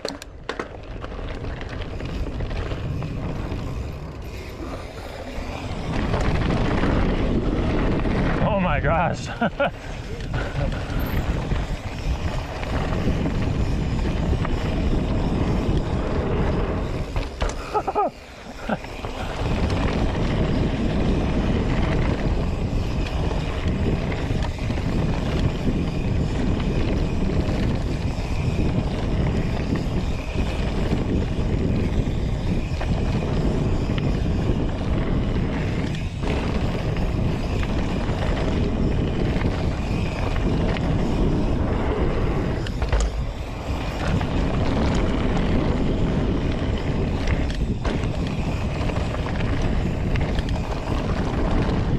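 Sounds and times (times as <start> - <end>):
bike tyres on gravel trail: 0.0 - 51.9
wind rushing over microphone: 0.0 - 51.9.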